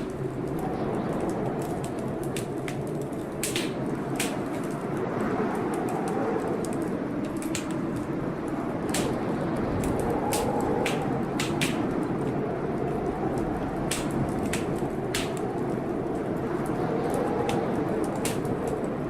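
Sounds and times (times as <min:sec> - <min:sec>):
storm rain rushing: 0:00.0 - 0:19.0
wood fire crackling and popping: 0:00.0 - 0:19.0.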